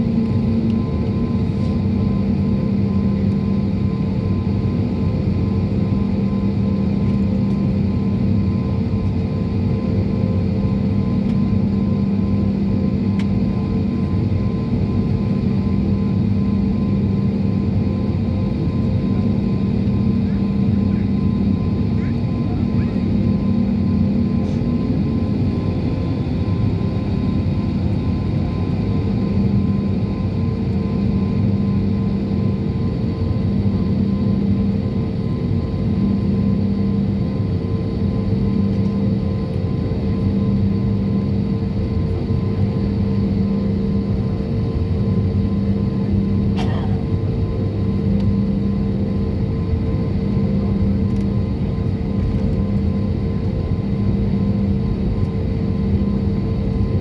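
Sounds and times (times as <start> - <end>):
airliner engines drone in cabin: 0.0 - 57.0.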